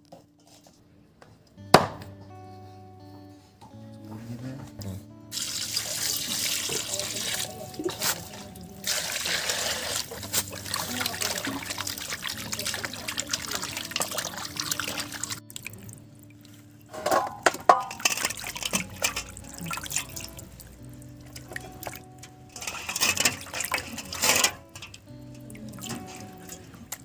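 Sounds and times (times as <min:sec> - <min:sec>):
water splashing and trickling: 0:05.3 - 0:27.0
hands sloshing pork in water: 0:05.4 - 0:27.0.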